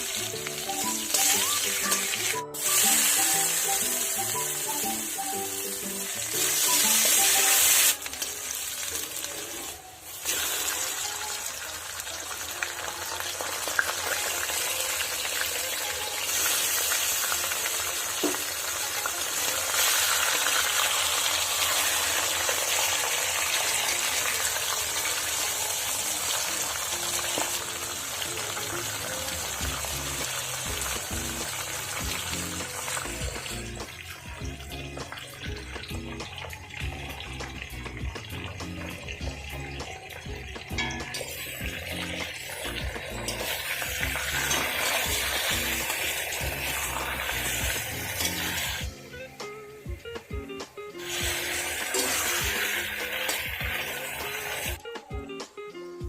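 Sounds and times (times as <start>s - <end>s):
chicken sizzling in hot oil: 0.0s - 49.2s, 50.2s - 54.8s
faint background music: 0.0s - 56.0s.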